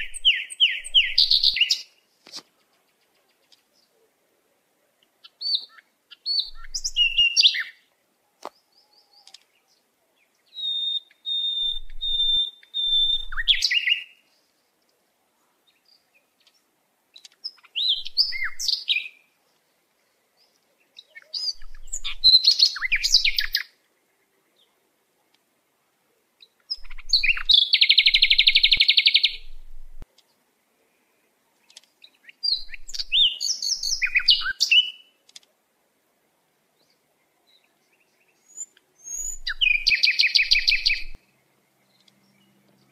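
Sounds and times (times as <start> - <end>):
songbird singing: 0.0 - 42.9.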